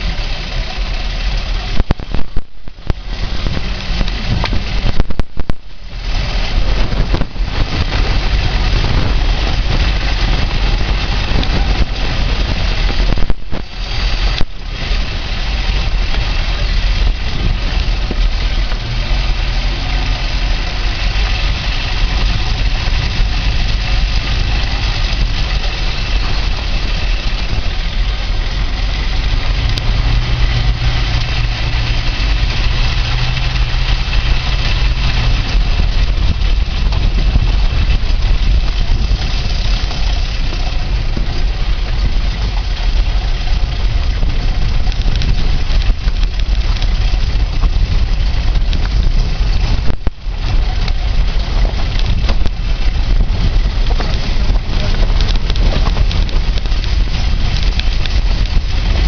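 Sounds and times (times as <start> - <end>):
car engine running: 0.0 - 59.0
car jolting over bumps: 0.0 - 59.0.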